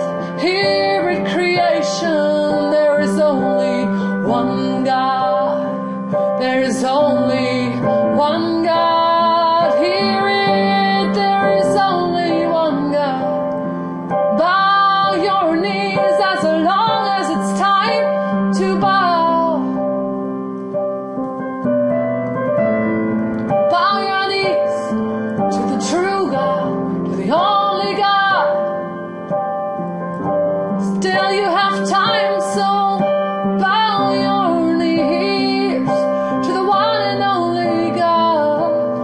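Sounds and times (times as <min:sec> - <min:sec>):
woman singing: 0:00.0 - 0:13.5, 0:14.3 - 0:19.8, 0:23.7 - 0:28.9, 0:30.8 - 0:39.0
piano chords: 0:00.0 - 0:39.0.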